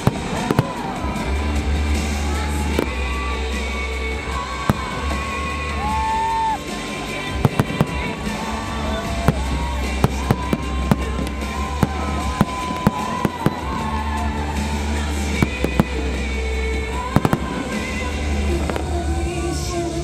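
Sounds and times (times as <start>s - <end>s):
fireworks bangs: 0.0s - 20.0s
loud music with deep bass: 0.0s - 20.0s.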